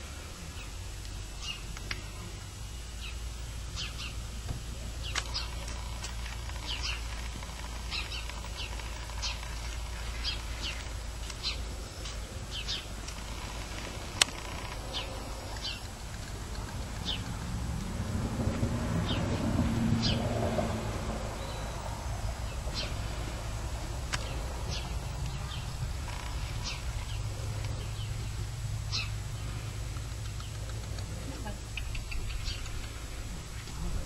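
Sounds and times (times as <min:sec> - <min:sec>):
steady low rumble: 0:00.0 - 0:34.0
small birds chirping: 0:00.3 - 0:17.6, 0:21.1 - 0:34.0.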